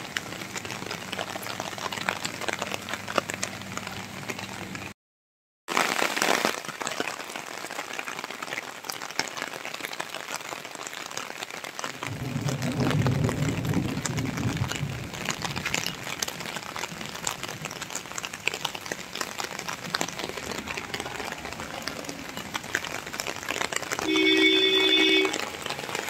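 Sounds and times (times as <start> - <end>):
rain on wet paving: 0.0 - 5.0, 5.7 - 26.0.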